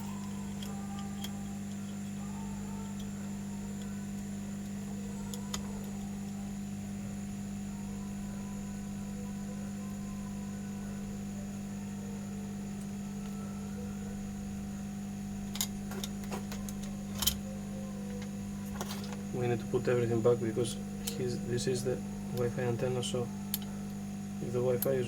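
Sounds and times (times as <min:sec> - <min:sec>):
electrical hum with whine: 0:00.0 - 0:25.0.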